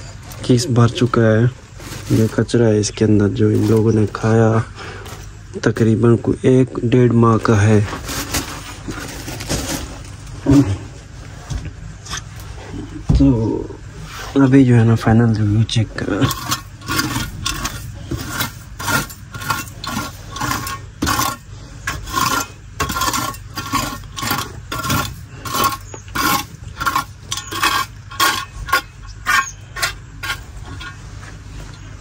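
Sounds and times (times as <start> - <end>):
hand tool scraping gritty floor: 0.0 - 5.9, 7.4 - 11.6, 16.0 - 32.0.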